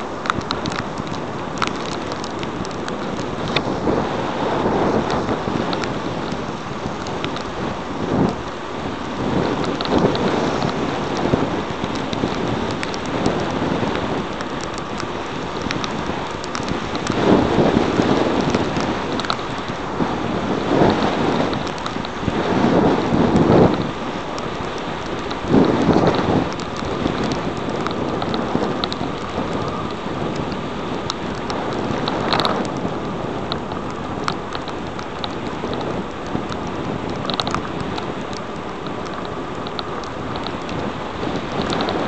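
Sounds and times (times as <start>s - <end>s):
raindrops ticking on camera: 0.0s - 42.0s
rush of heavy rain: 0.0s - 42.0s
wind noise: 0.0s - 42.0s.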